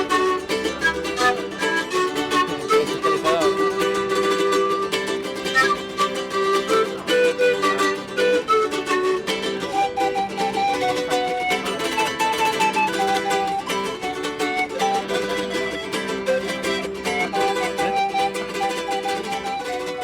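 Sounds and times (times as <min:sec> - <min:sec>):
plucked string instrument melody: 0:00.0 - 0:20.0.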